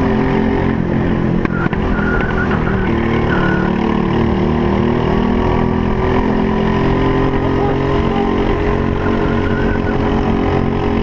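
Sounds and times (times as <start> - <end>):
kart engine running hard: 0.0 - 11.0.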